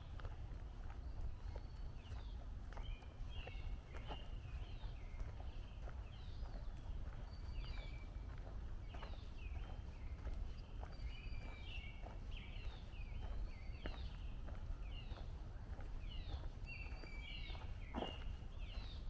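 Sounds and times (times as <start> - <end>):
footsteps on trail: 0.0 - 19.0
songbirds chirping: 0.0 - 19.0.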